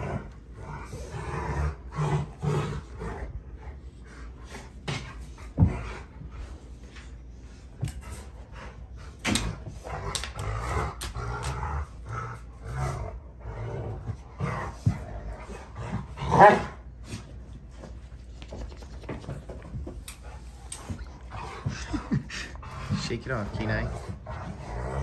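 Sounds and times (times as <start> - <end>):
dogs growling: 0.0 - 17.4, 19.1 - 25.0.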